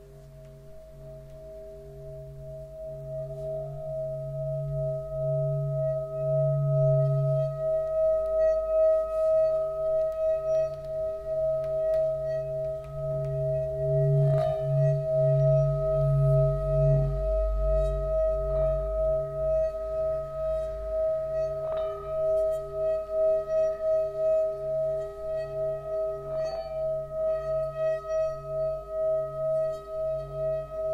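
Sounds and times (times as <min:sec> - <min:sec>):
metallic ringing tones: 0:00.0 - 0:30.9.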